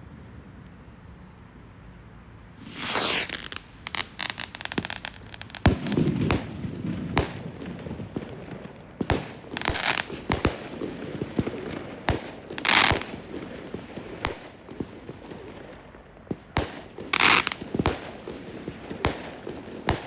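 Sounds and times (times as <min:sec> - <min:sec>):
fireworks bursting: 0:02.5 - 0:20.0
fireworks crackling: 0:02.5 - 0:20.0.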